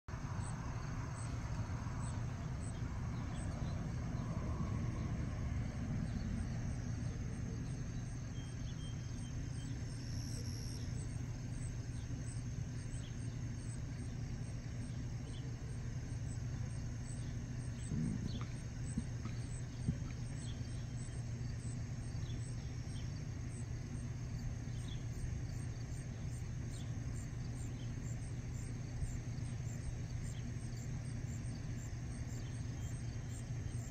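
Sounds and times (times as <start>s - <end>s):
insects chirping: 0.1s - 33.9s
steady low rumble: 0.1s - 33.9s.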